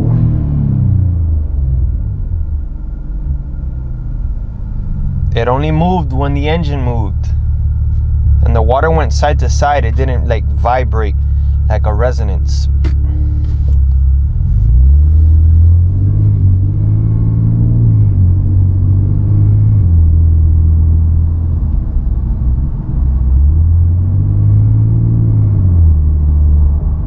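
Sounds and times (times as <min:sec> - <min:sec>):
car engine drone from inside: 0:00.0 - 0:27.0.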